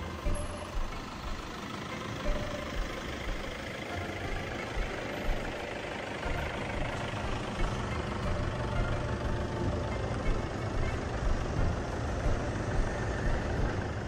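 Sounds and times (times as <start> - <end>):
street noise: 0.0 - 14.0
vehicle engine idling: 0.0 - 14.0.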